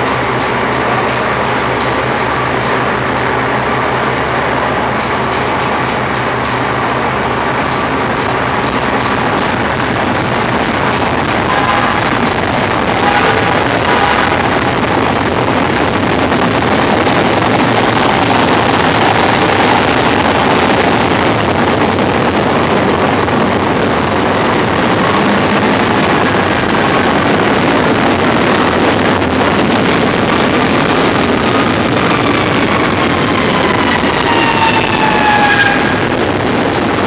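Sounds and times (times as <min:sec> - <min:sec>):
elevated train roaring: 0:00.0 - 0:37.0.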